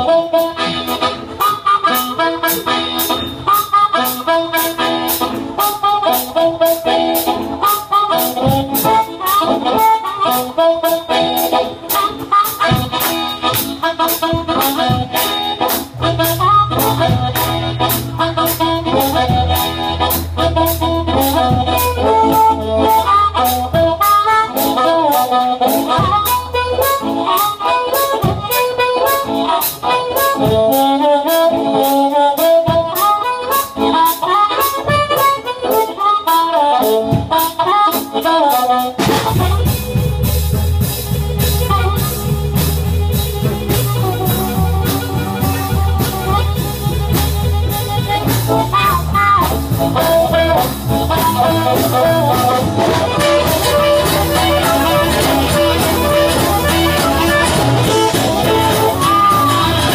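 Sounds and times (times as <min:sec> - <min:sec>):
amplified blues harmonica: 0:00.0 - 0:59.9
bass guitar: 0:00.0 - 0:59.9
drums steady beat: 0:00.0 - 0:59.9
electric guitar: 0:00.0 - 0:59.9.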